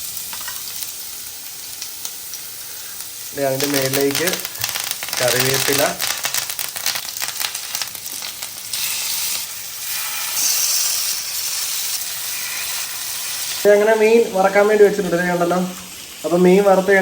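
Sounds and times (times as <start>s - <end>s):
fish sizzling and crackling in oil: 0.0s - 13.8s.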